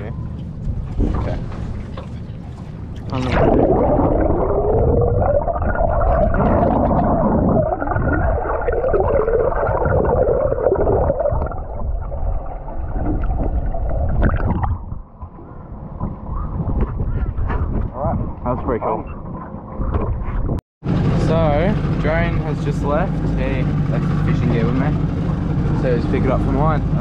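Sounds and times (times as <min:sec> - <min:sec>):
underwater gurgling and rumble: 0:00.0 - 0:27.0.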